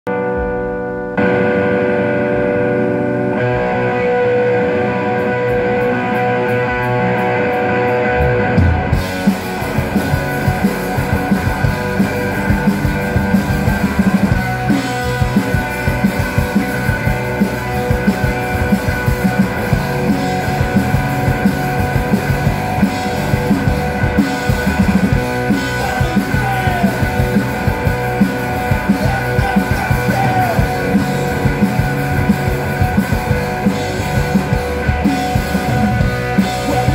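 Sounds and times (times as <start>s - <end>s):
drum kit: 0.1s - 36.9s
electric guitars: 0.1s - 36.9s
live rock band playing: 0.1s - 36.9s.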